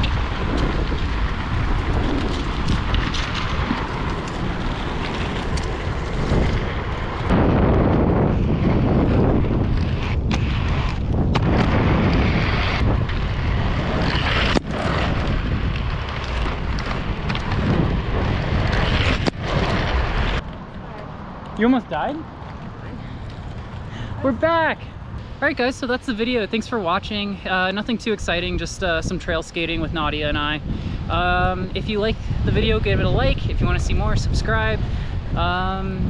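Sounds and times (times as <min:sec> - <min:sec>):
skate wheels rolling on pavement: 0:00.0 - 0:36.0
wind buffeting microphone: 0:00.0 - 0:36.0.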